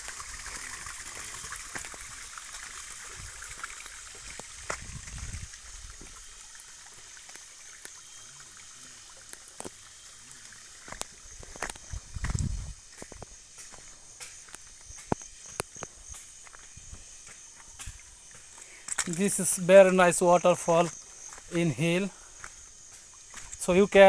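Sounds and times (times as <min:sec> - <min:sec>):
waterfall running: 0:00.0 - 0:24.0.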